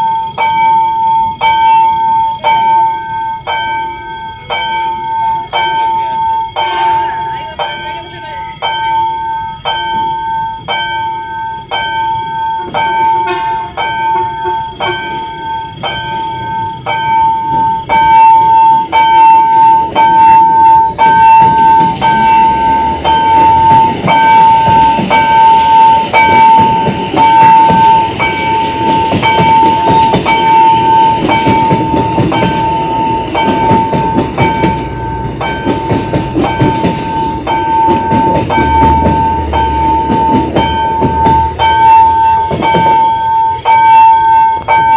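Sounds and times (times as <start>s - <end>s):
level crossing warning bell: 0.0s - 44.9s
train rumbling on rails: 0.0s - 44.9s.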